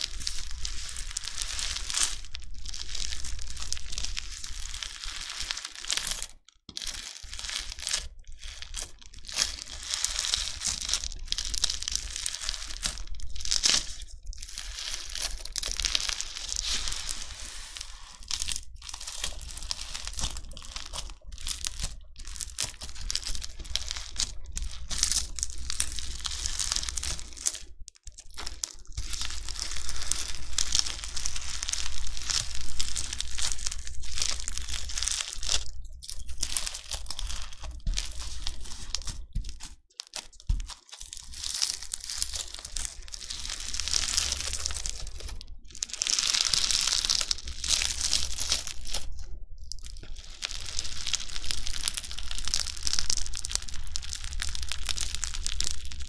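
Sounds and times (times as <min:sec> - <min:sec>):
slime crackling crunch: 0:00.0 - 0:56.0.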